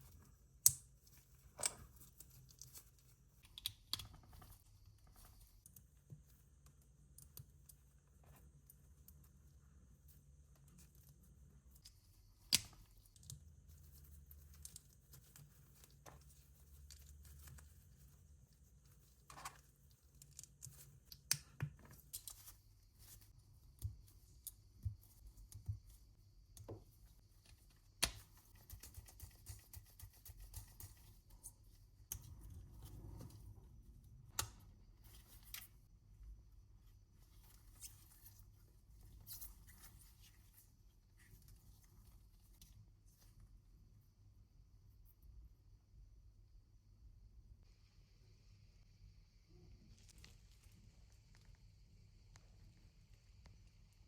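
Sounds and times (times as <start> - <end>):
soft handling noise: 0.0 - 29.0, 29.8 - 44.2.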